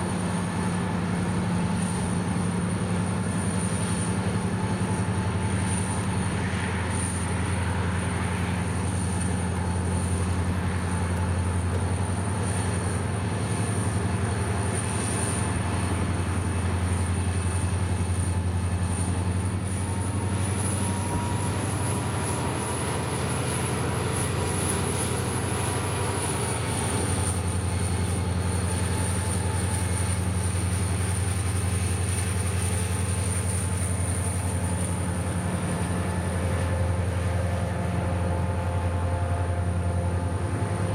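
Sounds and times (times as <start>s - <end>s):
diesel locomotive engine drone: 0.0s - 40.9s
thin high whine: 0.0s - 40.9s.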